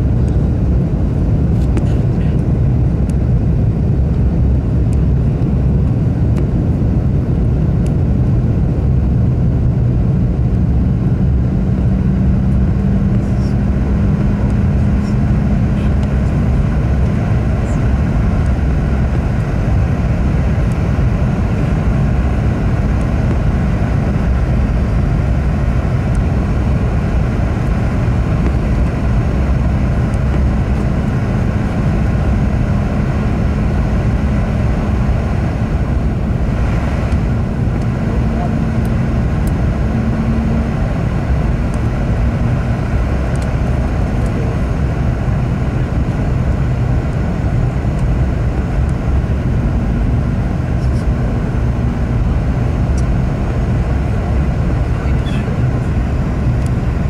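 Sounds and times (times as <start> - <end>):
airplane cabin roar: 0.0 - 57.0
faint steady drone: 0.0 - 57.0.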